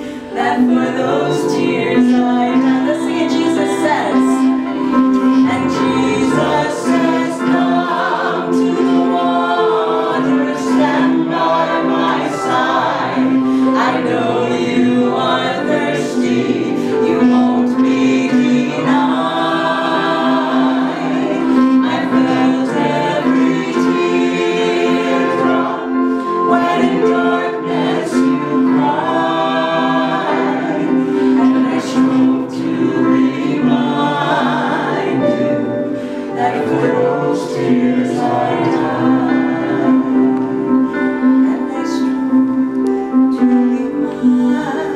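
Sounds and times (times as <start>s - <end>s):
held musical accompaniment: 0.0s - 44.9s
two women singing: 0.0s - 44.9s.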